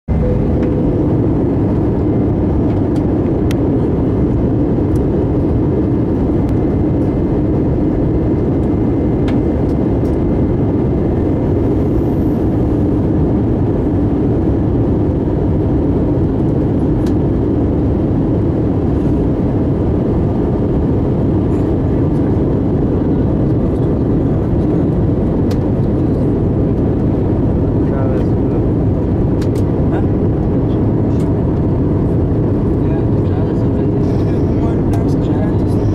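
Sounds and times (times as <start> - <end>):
airplane cabin engine and airflow noise: 0.1 - 35.9.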